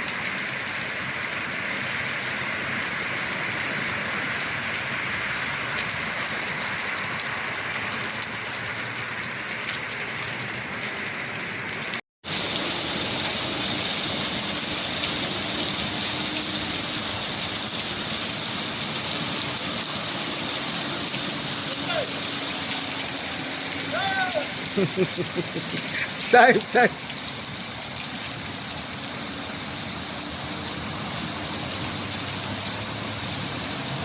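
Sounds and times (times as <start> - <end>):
heavy rain splashing: 0.0 - 34.0.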